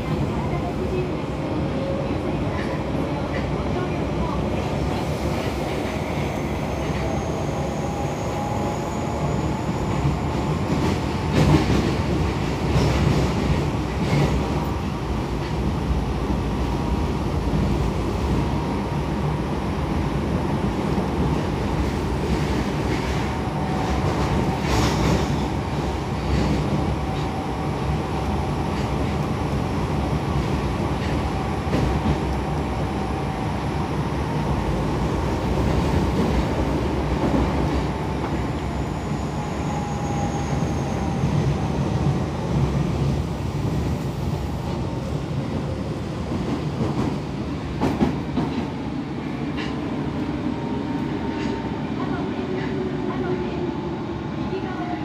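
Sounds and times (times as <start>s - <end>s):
subway car wheels rumbling: 0.0s - 55.0s.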